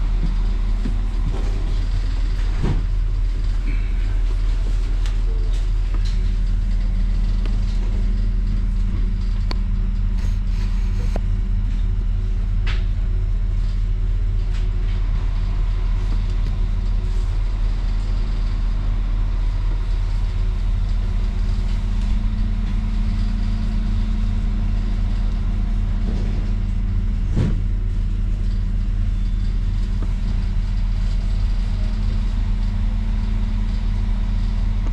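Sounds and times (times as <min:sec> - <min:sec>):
train carriage hum and rumble: 0:00.0 - 0:34.9.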